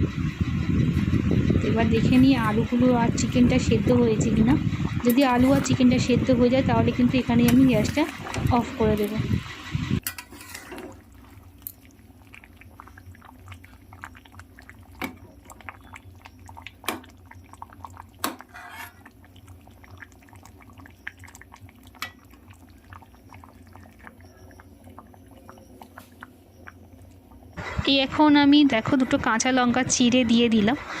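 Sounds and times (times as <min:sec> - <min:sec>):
low steady hum: 0:00.0 - 0:30.7
curry simmering with small crackles: 0:02.0 - 0:30.5.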